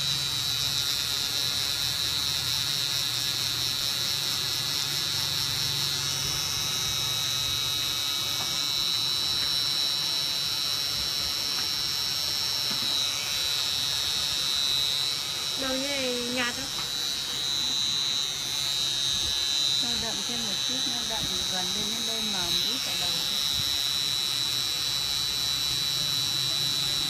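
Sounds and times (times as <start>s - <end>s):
tattoo pen buzzing: 0.0s - 27.0s.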